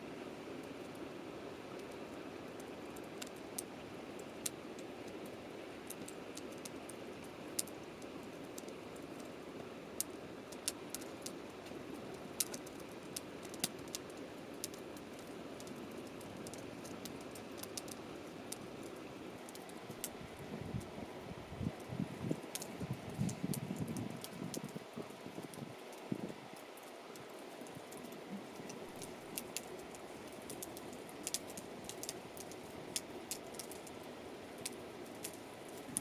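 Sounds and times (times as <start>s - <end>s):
campfire crackling and popping: 0.1s - 36.0s.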